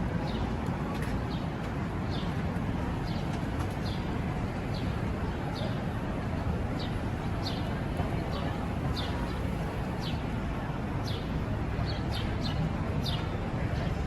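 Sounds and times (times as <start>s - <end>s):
low city background rumble: 0.0s - 14.0s.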